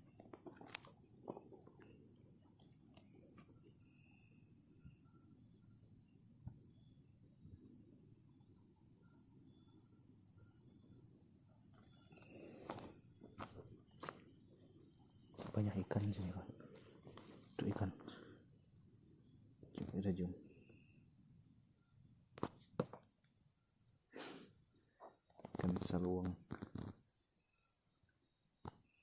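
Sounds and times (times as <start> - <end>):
night insects chorus: 0.0 - 29.0.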